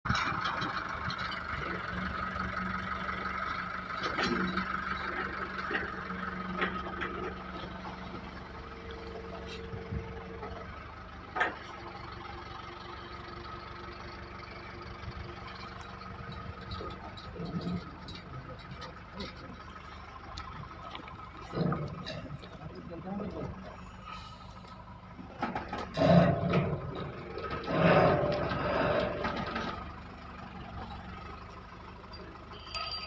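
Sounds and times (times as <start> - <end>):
engine running: 0.1 - 33.0.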